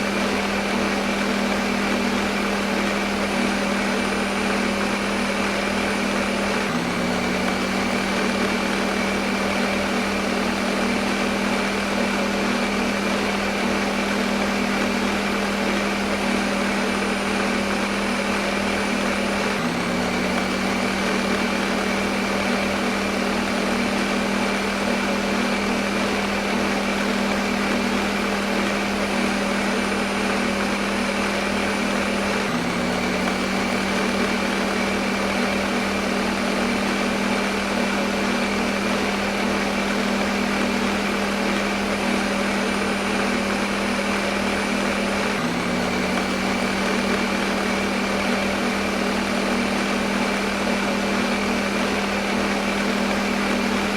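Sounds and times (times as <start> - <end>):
blender motor whirring: 0.0 - 53.9.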